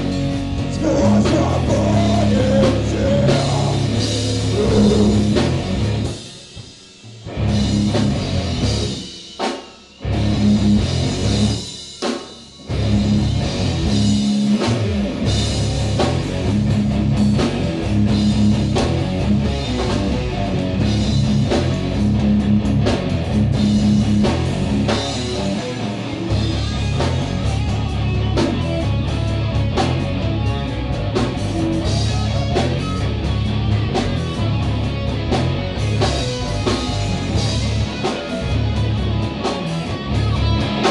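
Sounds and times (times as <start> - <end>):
heavy metal band playing live: 0.0 - 40.9.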